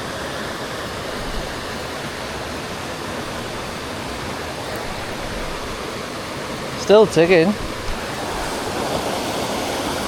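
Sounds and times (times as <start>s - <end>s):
fast-flowing river rushing: 0.0s - 10.0s.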